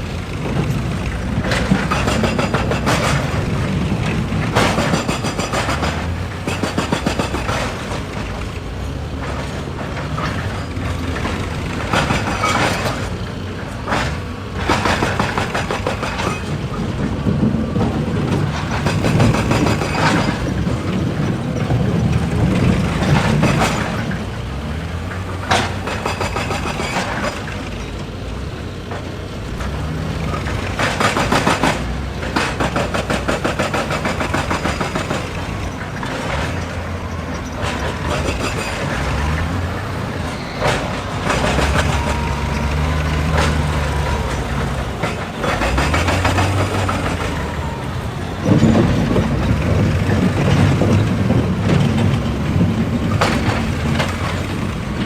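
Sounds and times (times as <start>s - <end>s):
diesel engine under load: 0.0s - 55.0s
metallic clattering and grinding: 0.0s - 55.0s.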